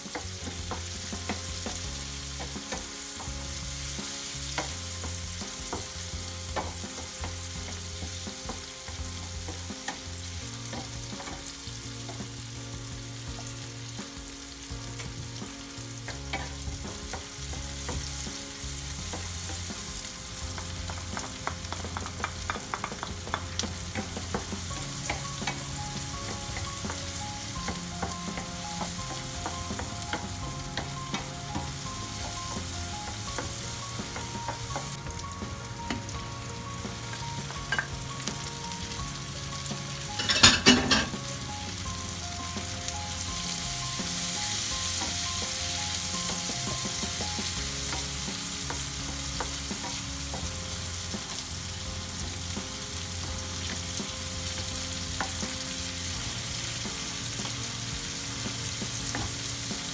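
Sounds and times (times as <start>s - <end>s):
onion sizzling in hot oil: 0.0s - 59.9s.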